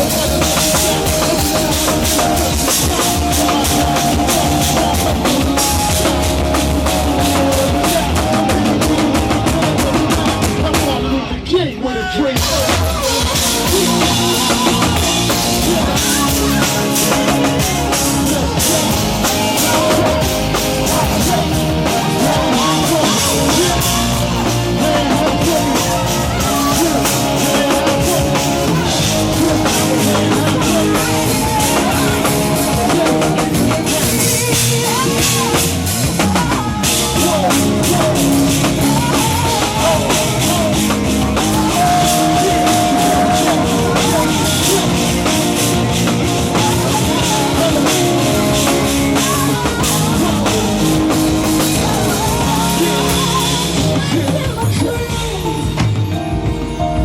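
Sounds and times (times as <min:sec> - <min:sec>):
drum kit playing: 0:00.0 - 0:11.2, 0:12.2 - 0:57.0
live band music: 0:00.0 - 0:57.0.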